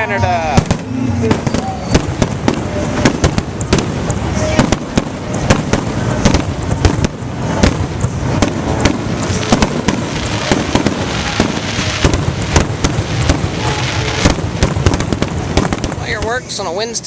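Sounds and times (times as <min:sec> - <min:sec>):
fireworks bangs and crackles: 0:00.0 - 0:17.0
rumble of fireworks booms: 0:00.4 - 0:17.0.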